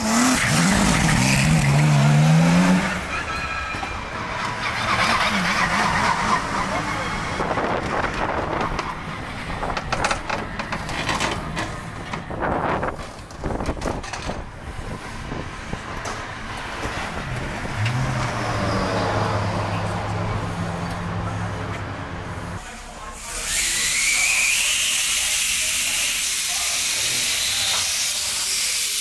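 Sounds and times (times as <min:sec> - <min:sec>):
race car engine: 0:00.0 - 0:29.0.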